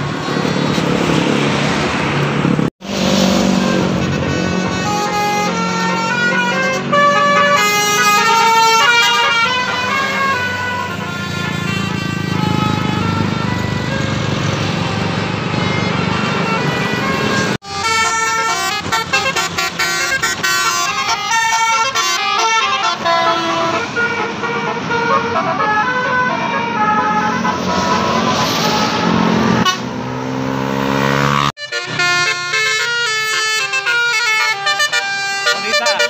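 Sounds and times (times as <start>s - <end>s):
multi-tone bus air horn melody: 3.3s - 36.0s.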